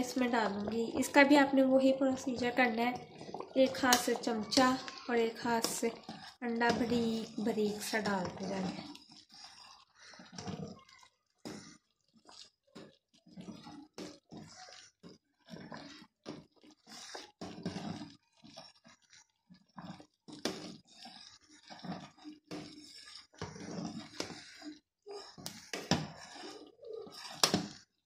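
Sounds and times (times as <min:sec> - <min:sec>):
ladle scraping a steel pot: 0:00.0 - 0:28.0.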